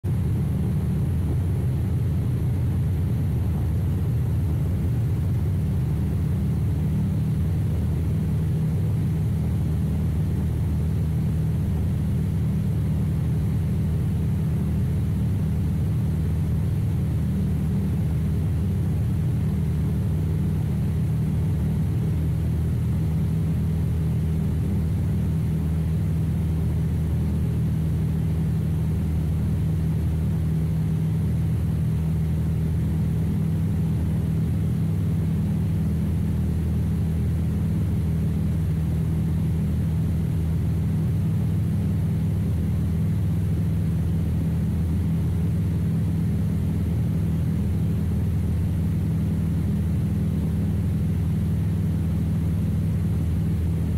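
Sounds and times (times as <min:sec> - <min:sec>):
aircraft engine and propeller droning: 0:00.0 - 0:53.9.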